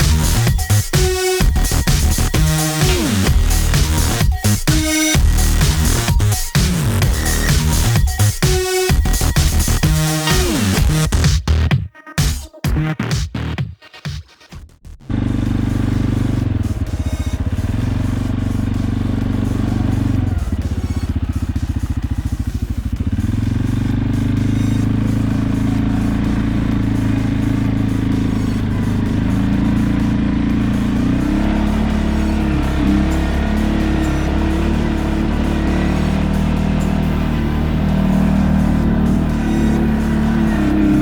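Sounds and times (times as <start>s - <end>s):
single-cylinder engine running: 0.0s - 11.2s, 15.1s - 41.0s.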